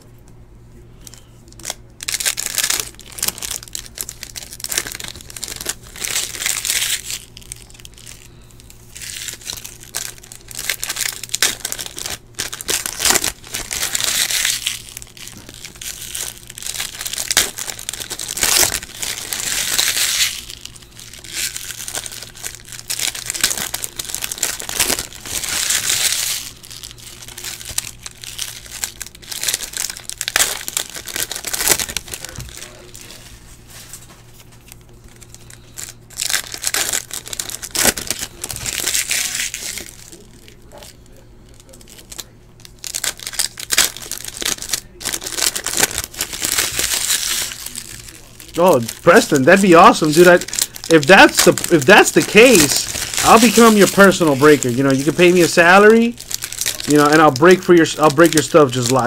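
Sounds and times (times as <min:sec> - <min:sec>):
foil wrappers crinkling and tearing: 0:01.0 - 0:59.0.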